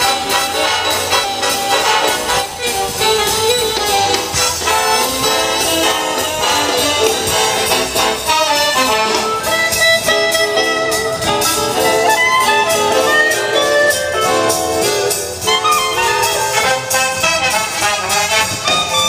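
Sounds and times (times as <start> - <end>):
jazz dance music over loudspeaker: 0.0 - 19.0.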